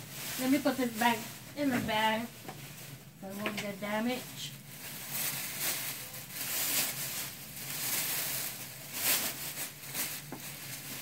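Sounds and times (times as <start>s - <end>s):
bag rustling and crinkling: 0.0s - 11.0s.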